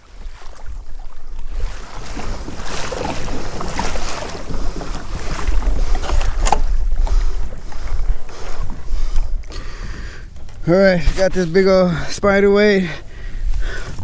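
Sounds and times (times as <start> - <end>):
water splashing against hull: 0.0 - 14.0
wind buffeting microphone: 0.0 - 14.0.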